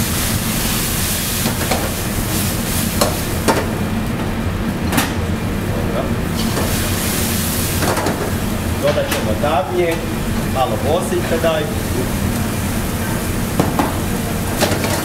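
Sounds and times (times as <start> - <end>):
vegetables sizzling in wok: 0.0 - 3.8, 6.2 - 15.0.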